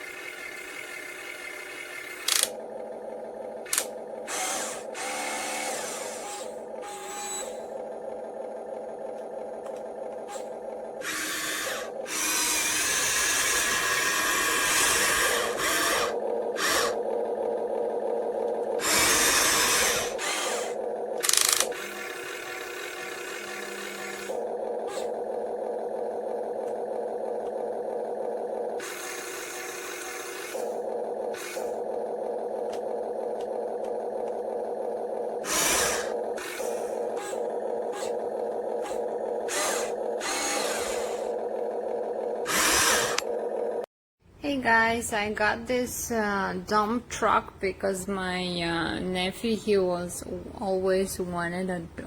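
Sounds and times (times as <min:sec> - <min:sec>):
toy motor and gears whirring: 0:00.0 - 0:02.6, 0:03.6 - 0:43.9
grinding noise: 0:00.0 - 0:43.9.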